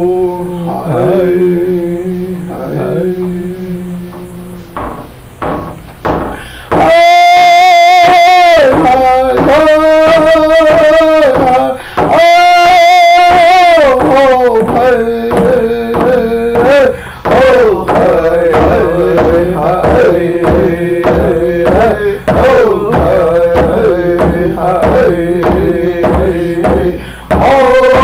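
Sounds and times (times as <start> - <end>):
men singing: 0.0 - 5.1, 6.4 - 28.0
steady drum beat: 4.1 - 28.0.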